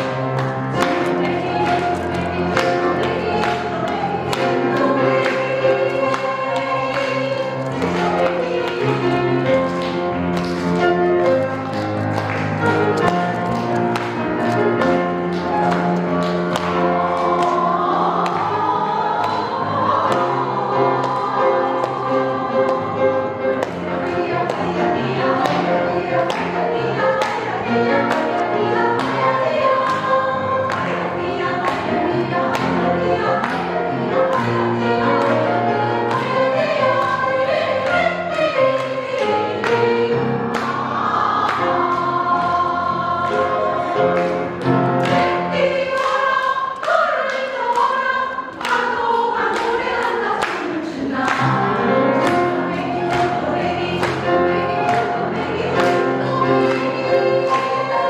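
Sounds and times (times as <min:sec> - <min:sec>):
women singing in harmony: 0:00.0 - 0:58.0.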